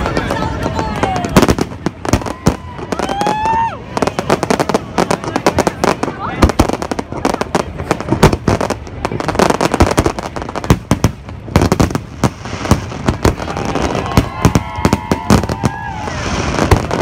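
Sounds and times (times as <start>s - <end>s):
crackling fireworks stars: 0.0s - 17.0s.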